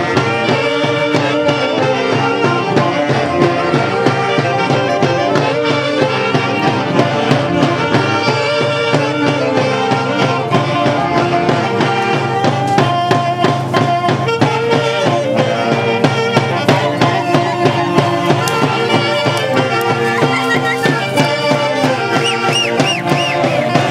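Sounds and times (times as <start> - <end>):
folk band playing: 0.0 - 23.9.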